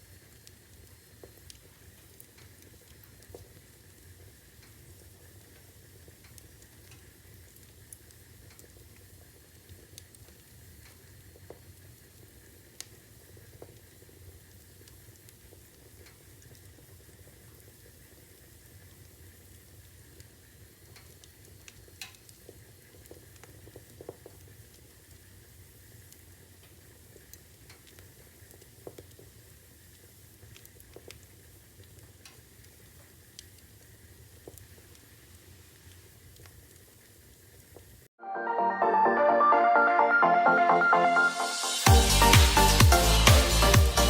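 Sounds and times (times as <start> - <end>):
fire popping: 0.0 - 38.1
logs crackling in fireplace: 0.0 - 38.1.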